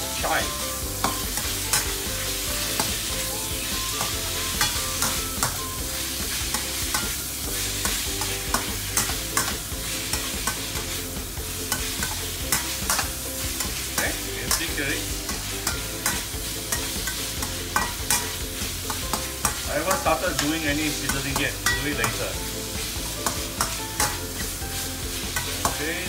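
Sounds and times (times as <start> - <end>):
metal ladle scraping wok: 0.0 - 26.0
vegetables sizzling in hot oil: 0.0 - 26.0.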